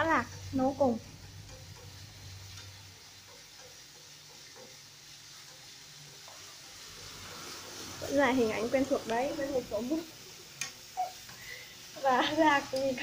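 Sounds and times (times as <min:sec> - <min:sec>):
food sizzling: 0:00.0 - 0:13.0
utensil clicking in frying pan: 0:00.0 - 0:13.0.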